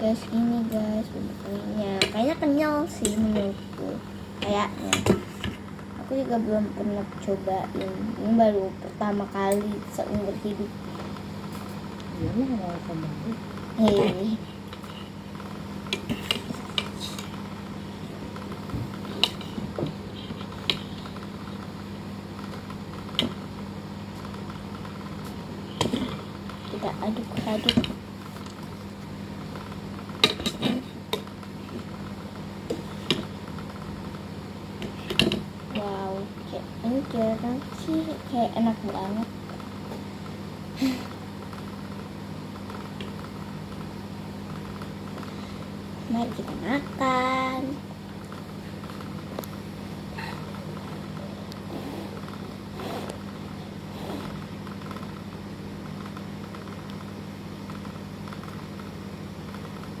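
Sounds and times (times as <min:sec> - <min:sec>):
low steady hum: 0:00.0 - 1:00.0.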